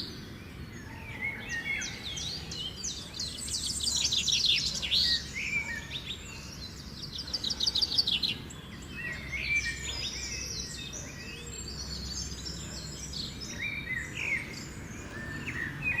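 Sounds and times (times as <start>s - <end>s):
bird trill: 0.0s - 16.0s
birds chirping and singing: 0.0s - 16.0s.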